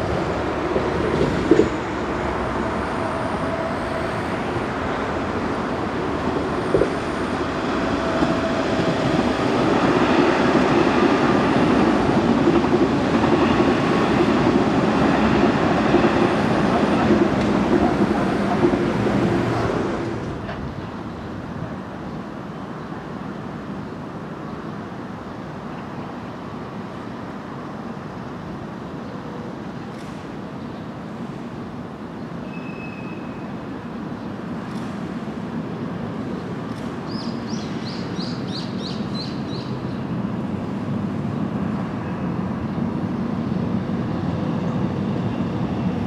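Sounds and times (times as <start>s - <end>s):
electric train passing: 0.0s - 46.0s
outdoor background noise: 0.0s - 46.0s.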